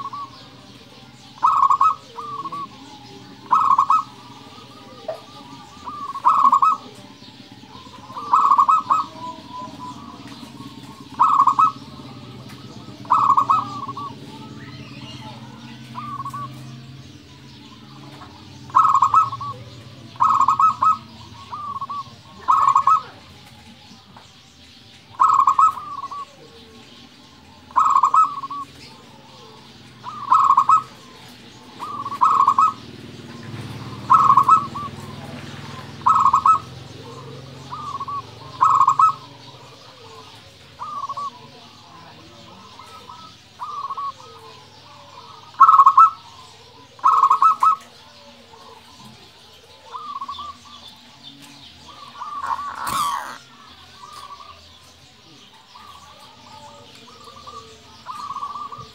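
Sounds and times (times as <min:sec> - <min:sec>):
dove rolling coos: 0:00.0 - 0:24.2, 0:25.0 - 0:58.9.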